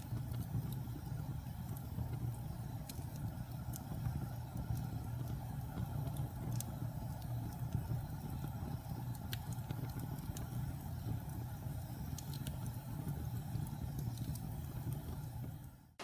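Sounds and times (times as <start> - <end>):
fire roaring: 0.0 - 16.0
wood crackling and popping: 0.0 - 16.0.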